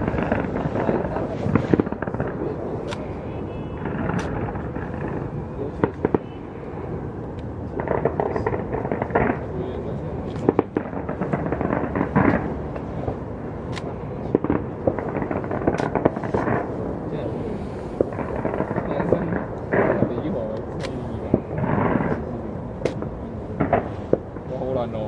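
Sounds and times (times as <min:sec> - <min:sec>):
fireworks bursting and crackling: 0:00.0 - 0:24.9
crowd voices: 0:00.0 - 0:25.0.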